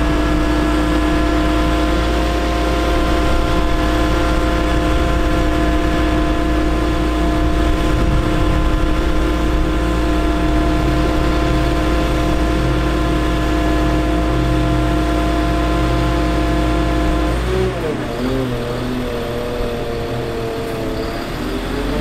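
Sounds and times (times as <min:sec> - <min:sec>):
diesel engine rumbling: 0:00.0 - 0:22.0
hydraulic boom whine: 0:00.0 - 0:22.0.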